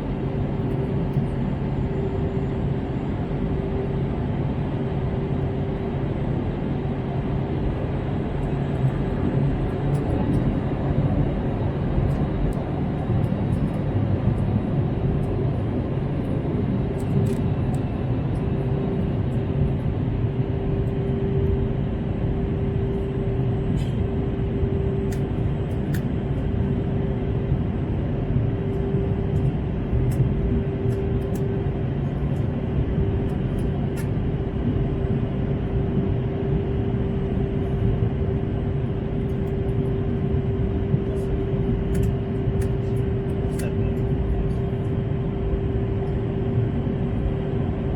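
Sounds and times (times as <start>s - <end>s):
aircraft cabin engine rush: 0.0s - 47.9s
steady hum: 0.0s - 47.9s.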